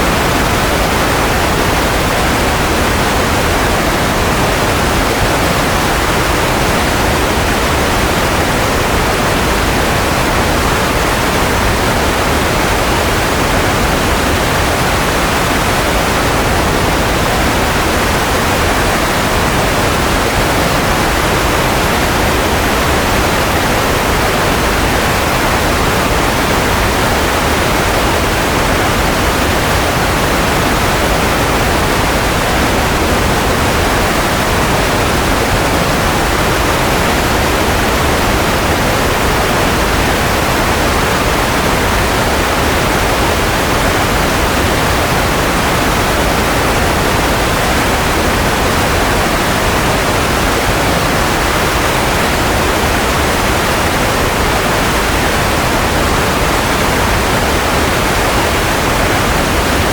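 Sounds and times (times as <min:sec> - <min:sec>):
steady white noise hiss: 0:00.0 - 0:59.9.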